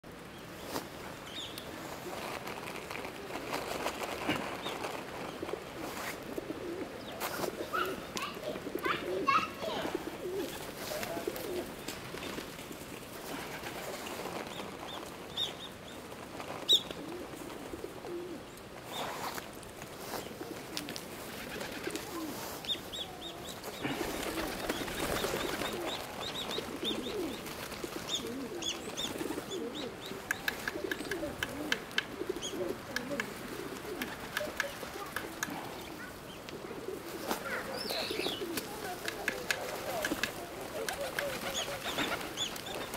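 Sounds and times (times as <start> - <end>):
small birds chirping: 0.2 - 19.4, 21.3 - 42.9
wings flapping: 1.8 - 18.2, 18.9 - 22.8, 23.4 - 42.9
pigeons cooing: 2.0 - 14.2, 16.7 - 19.3, 20.0 - 42.9.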